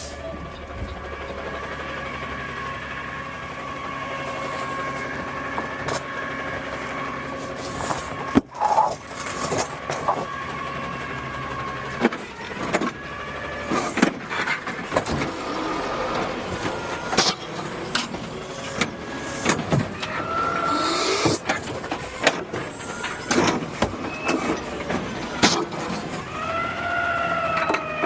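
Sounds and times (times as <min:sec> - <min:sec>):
garbage truck mechanical whine: 0:00.0 - 0:28.0.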